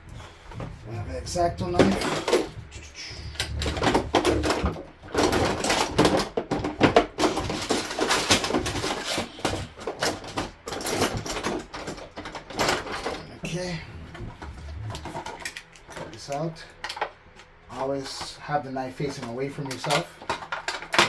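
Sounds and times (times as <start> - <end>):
packaging crackling and rustling: 0.0 - 17.6.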